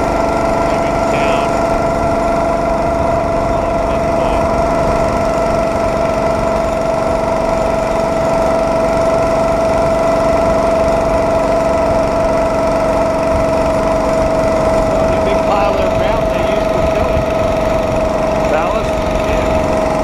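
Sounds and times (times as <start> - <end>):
constant high tone: 0.0 - 20.0
small engine droning: 0.0 - 20.0.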